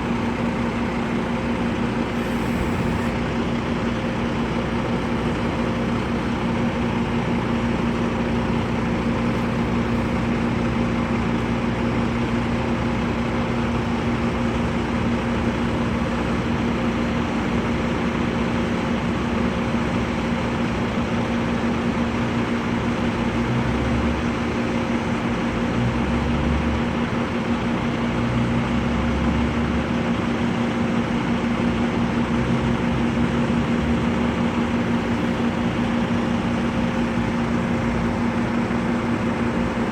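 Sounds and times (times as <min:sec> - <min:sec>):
vehicle engine hum: 0:00.0 - 0:39.9.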